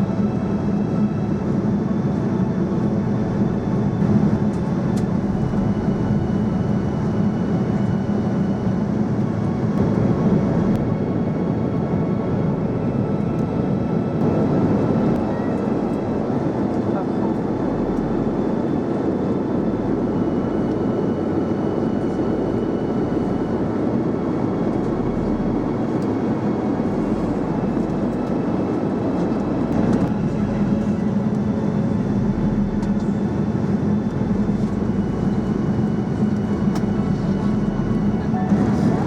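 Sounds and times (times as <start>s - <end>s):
airliner cabin noise: 0.0s - 39.0s
low hum: 2.4s - 39.0s.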